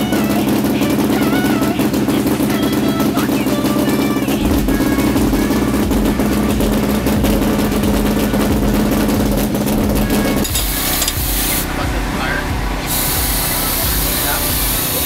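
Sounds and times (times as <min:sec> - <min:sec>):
race car engine idling: 0:00.0 - 0:15.0.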